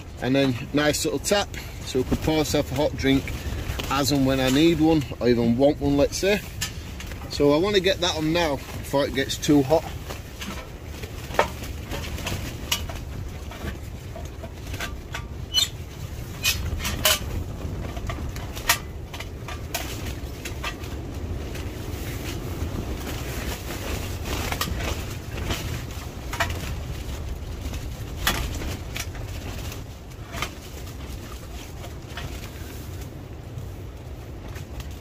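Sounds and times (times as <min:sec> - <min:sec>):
storm wind on a tent: 0:00.0 - 0:35.0.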